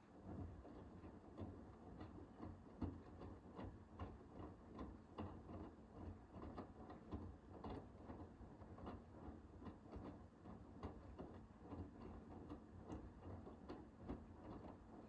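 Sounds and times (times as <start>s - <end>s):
soft knocks of tumbling laundry: 0.0s - 15.0s.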